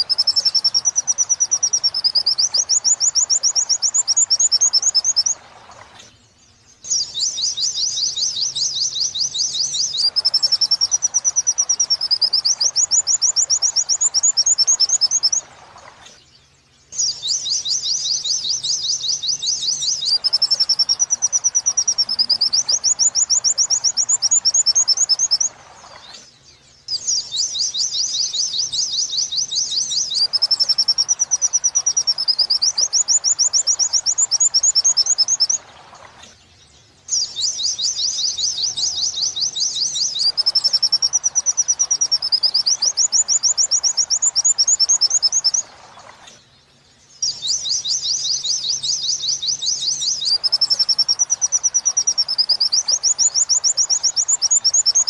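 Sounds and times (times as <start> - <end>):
bird song with whistles: 0.0 - 5.4, 6.0 - 16.3, 16.9 - 36.4, 37.1 - 46.4, 47.2 - 55.0.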